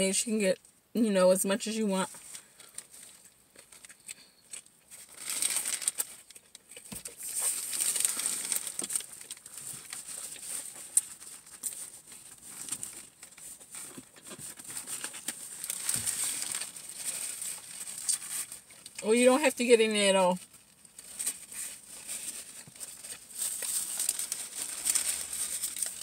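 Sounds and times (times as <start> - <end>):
paper wrapper crinkling: 2.1 - 19.1, 20.3 - 26.0.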